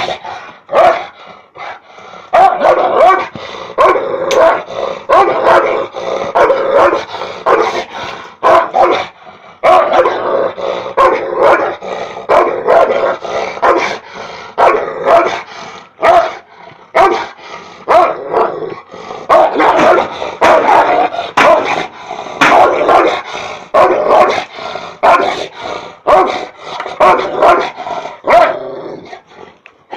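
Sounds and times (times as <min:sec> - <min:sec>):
dog barking aggressively: 0:00.0 - 0:10.4, 0:11.0 - 0:18.6, 0:19.3 - 0:28.7.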